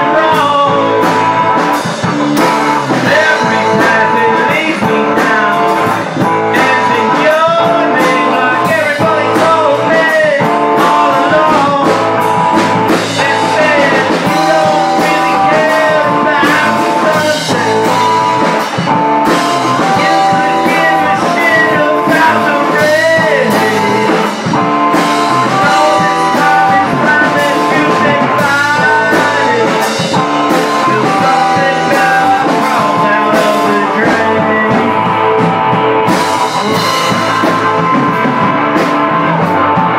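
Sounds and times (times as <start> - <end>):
bass guitar: 0.0 - 39.9
drum kit: 0.0 - 39.9
electric guitar: 0.0 - 39.9
pitch-bending melody line: 0.0 - 39.9.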